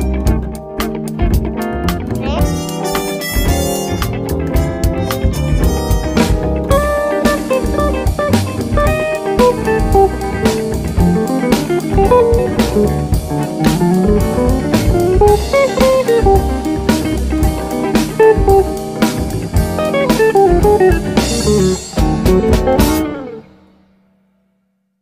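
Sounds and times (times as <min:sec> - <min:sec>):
steady drum beat: 0:00.0 - 0:23.3
plucked guitar melody: 0:00.0 - 0:23.7.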